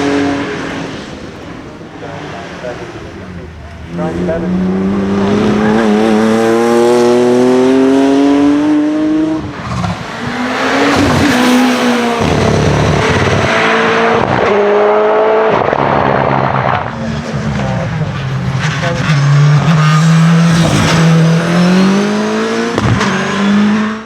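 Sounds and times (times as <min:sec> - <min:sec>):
racing car engine accelerating: 0:00.0 - 0:24.0.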